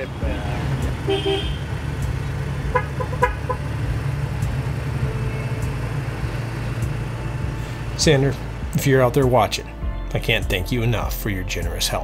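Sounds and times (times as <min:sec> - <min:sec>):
truck engines rumbling: 0:00.0 - 0:12.0.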